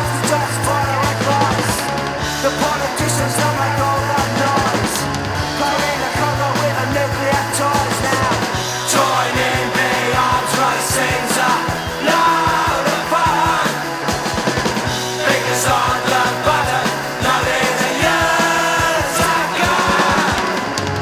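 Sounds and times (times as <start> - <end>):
distorted electric guitars: 0.0 - 21.0
pounding drums: 0.0 - 21.0
shouted sung vocals: 2.7 - 13.9, 15.0 - 21.0.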